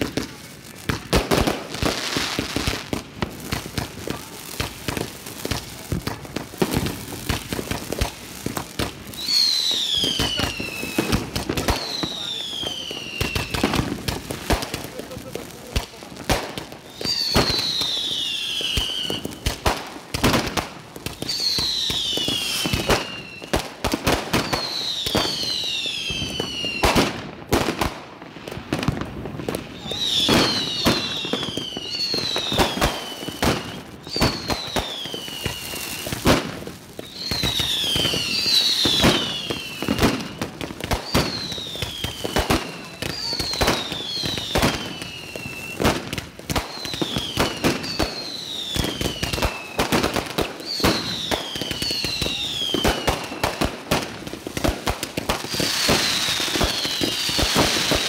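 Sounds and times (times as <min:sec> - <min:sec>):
whistling fireworks: 0:00.0 - 0:58.0.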